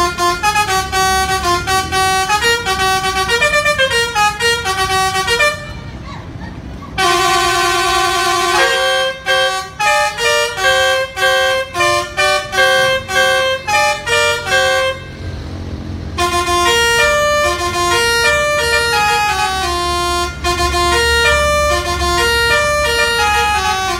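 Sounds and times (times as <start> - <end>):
musical truck horn melody: 0.0 - 6.1, 7.0 - 23.9
low engine rumble: 0.0 - 23.9.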